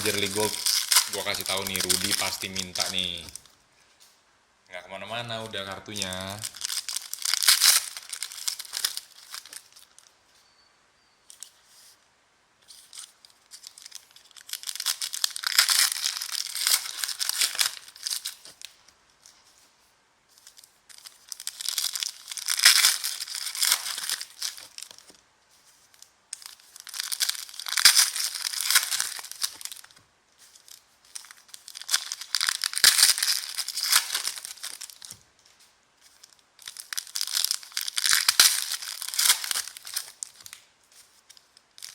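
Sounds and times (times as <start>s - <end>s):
card pack wrappers tearing and crinkling: 0.0s - 3.5s, 5.2s - 10.1s, 12.7s - 18.8s, 20.4s - 41.9s.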